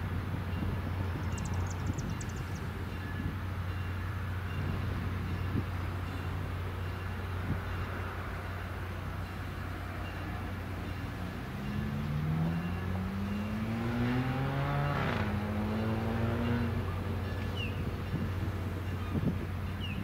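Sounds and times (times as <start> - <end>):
diesel locomotive droning: 0.0 - 20.0.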